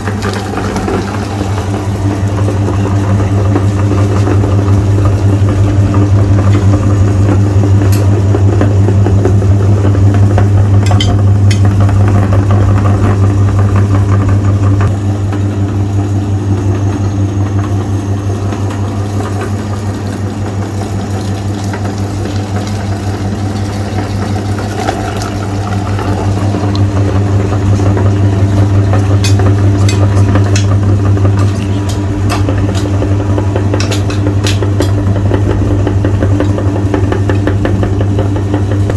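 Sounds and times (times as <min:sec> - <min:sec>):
meat grinder motor humming: 0:00.0 - 0:38.9.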